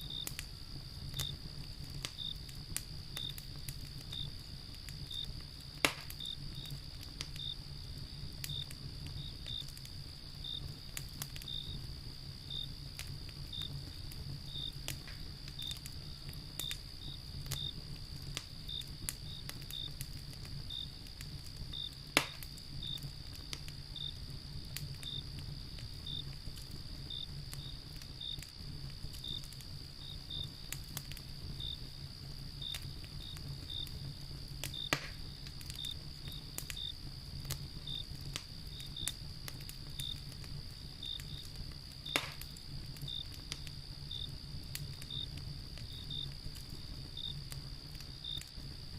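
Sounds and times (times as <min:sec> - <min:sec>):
crickets chirping: 0:00.0 - 0:48.9
loud sharp pops from fire: 0:00.0 - 0:48.9
wood fire crackling: 0:00.0 - 0:48.9.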